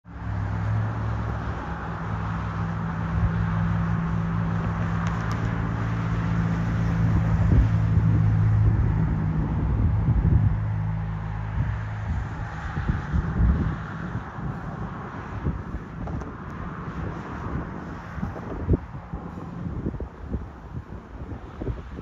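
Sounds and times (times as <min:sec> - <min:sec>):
distant jet engines roaring: 0:00.1 - 0:22.0
wind buffeting microphone: 0:00.1 - 0:22.0.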